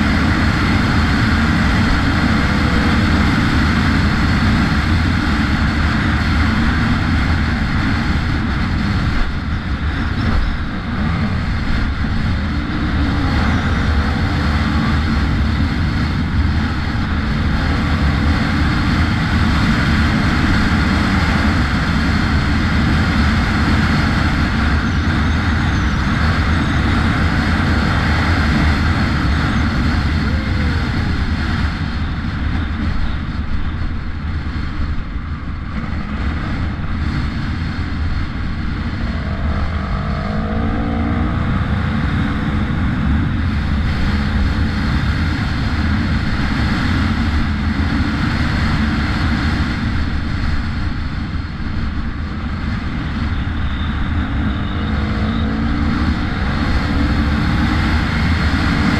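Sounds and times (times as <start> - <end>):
dirt bike engine running: 0.0 - 58.9
wind noise on microphone: 0.0 - 58.9.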